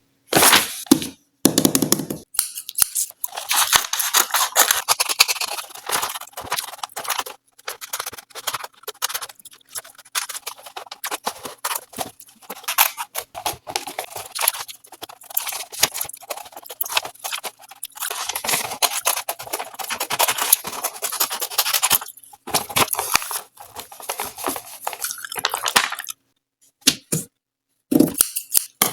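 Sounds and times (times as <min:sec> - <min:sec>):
scissors cutting paper: 0:02.4 - 0:25.1, 0:28.0 - 0:28.9.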